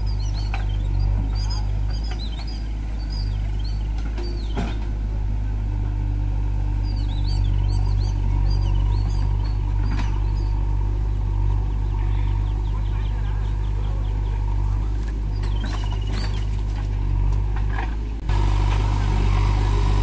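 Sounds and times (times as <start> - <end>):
birds chirping: 0.0 - 20.0
diesel engine idling: 0.0 - 20.0.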